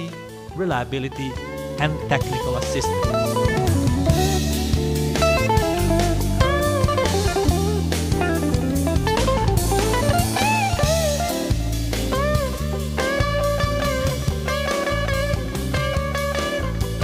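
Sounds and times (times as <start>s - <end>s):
electric guitar rock music: 0.0s - 17.0s.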